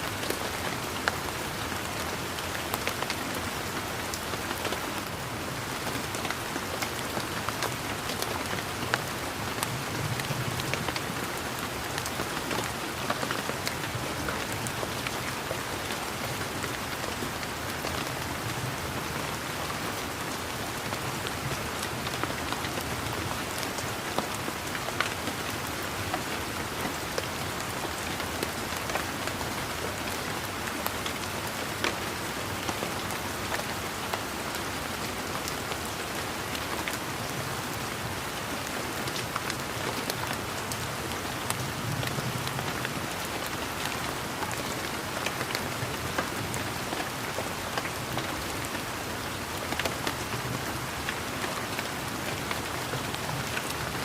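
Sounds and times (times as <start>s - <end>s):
rain falling on leaves: 0.0s - 54.0s
raindrops pattering: 0.0s - 54.0s.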